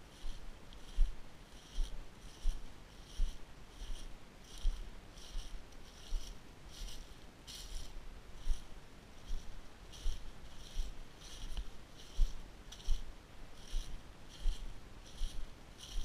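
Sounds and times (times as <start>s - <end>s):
footsteps on grass and dry leaves: 0.0s - 16.0s.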